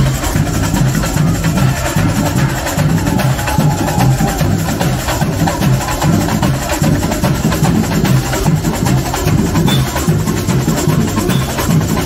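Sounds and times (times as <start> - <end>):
deep bass drums pulsing: 0.0 - 12.0
samba percussion playing: 0.0 - 12.0.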